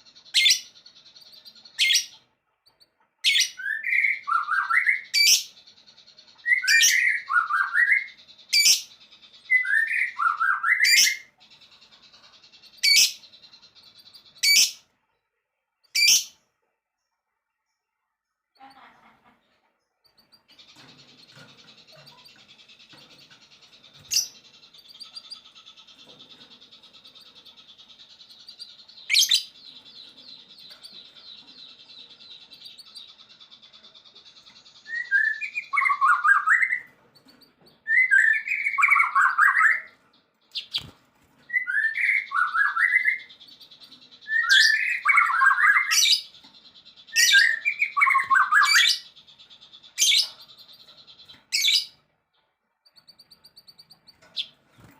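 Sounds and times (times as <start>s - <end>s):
loud scratchy birdsong phrases: 0.0s - 15.1s, 18.6s - 52.3s.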